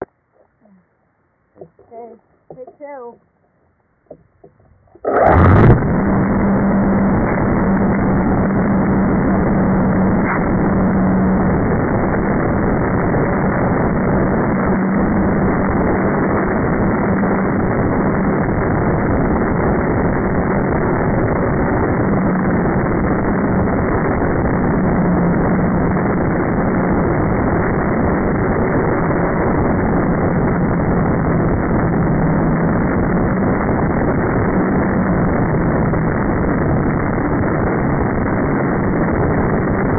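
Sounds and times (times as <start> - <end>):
steady rushing noise: 4.9 - 39.9.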